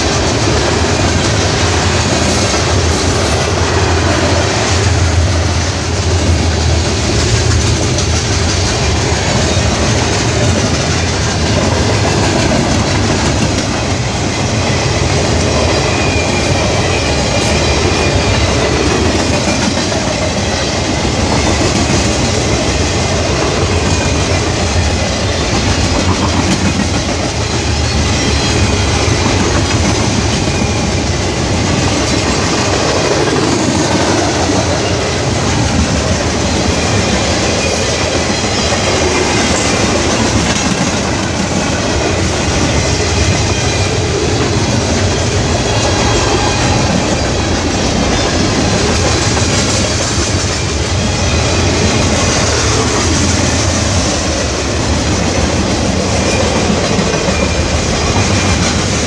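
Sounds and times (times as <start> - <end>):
train passing on rails: 0.0 - 59.0.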